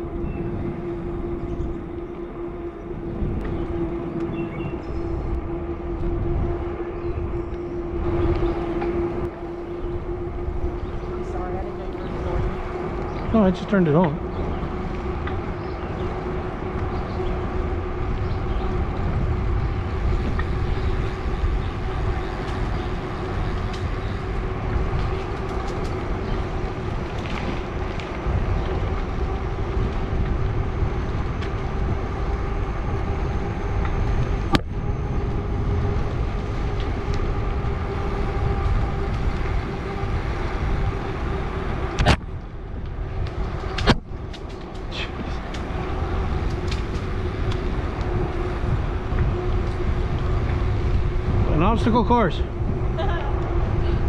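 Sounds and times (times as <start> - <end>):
electric motor hum: 0.0 - 54.0
wind and tyre noise: 0.0 - 54.0.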